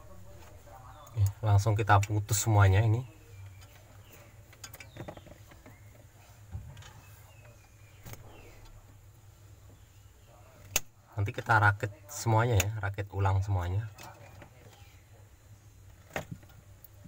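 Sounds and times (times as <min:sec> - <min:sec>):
faint low hum: 0:00.0 - 0:17.0
rustling of wiring: 0:00.0 - 0:17.0.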